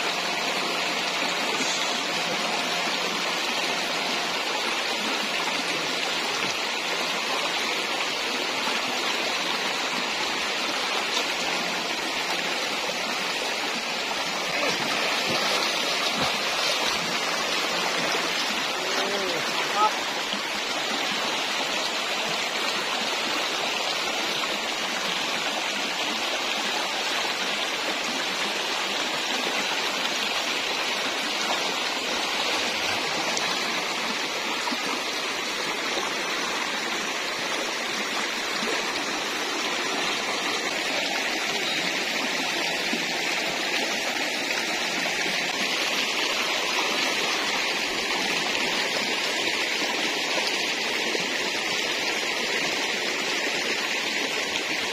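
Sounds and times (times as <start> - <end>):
stream rushing over rocks: 0.0 - 54.9.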